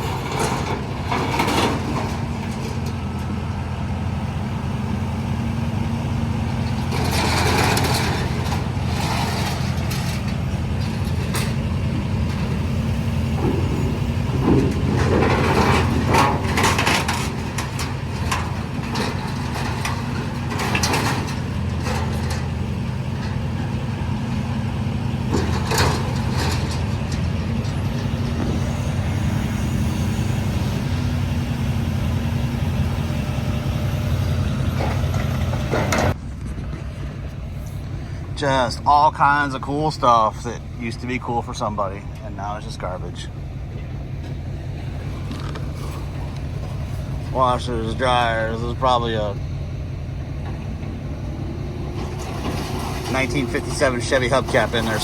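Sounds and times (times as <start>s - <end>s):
large engine running: 0.0s - 55.0s.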